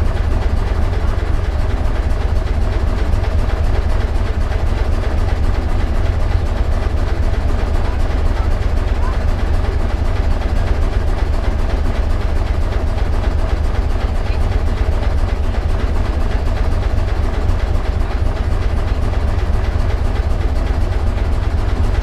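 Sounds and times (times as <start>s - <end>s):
boat engine pulsing beat: 0.0s - 22.0s.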